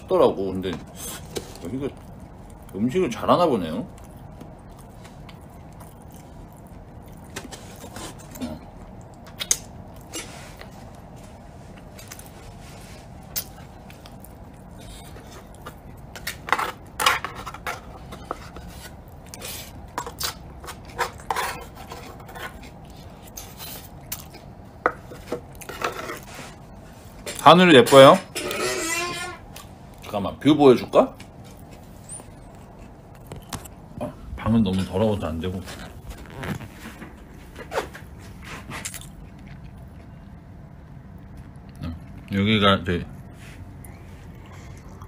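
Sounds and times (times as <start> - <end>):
low room hum: 0.0 - 45.0.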